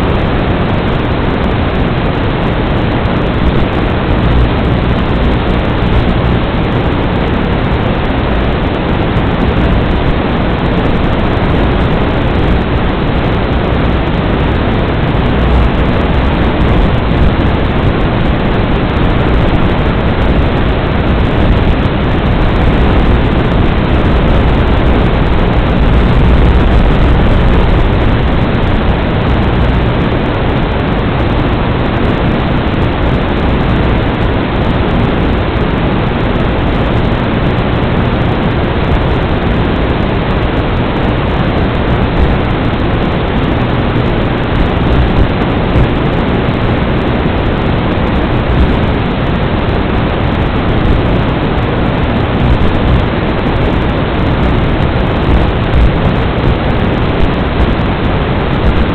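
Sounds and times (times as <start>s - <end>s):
loud static hiss: 0.0s - 58.9s.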